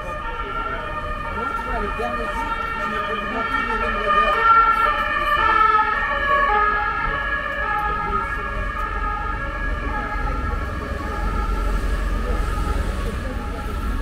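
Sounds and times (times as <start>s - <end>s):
emergency vehicle siren: 0.0s - 14.0s
road traffic rumble: 0.0s - 14.0s.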